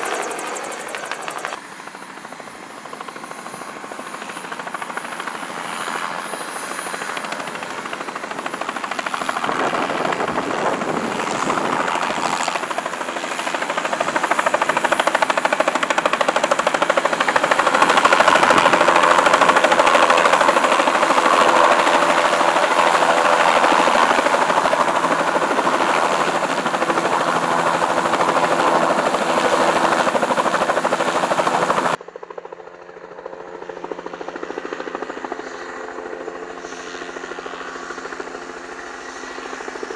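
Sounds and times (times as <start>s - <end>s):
helicopter flying: 0.0s - 39.9s.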